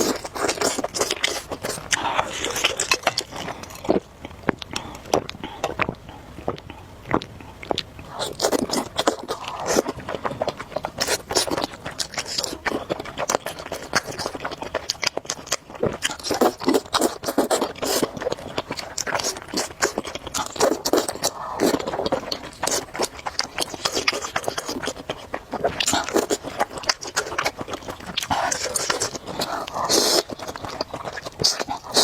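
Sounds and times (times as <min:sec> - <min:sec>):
person chewing and crunching food: 0:00.0 - 0:32.0.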